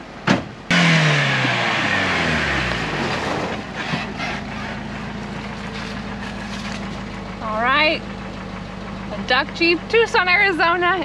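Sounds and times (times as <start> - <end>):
car engine slowing to idle: 0.0 - 11.0.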